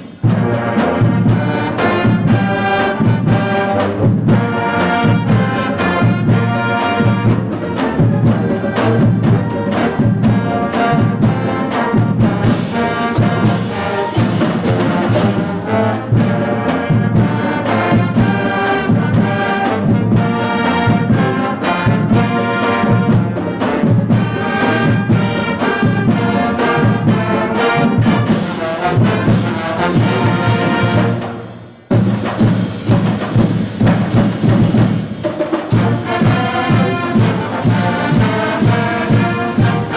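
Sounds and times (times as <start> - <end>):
concert band playing: 0.0 - 39.9.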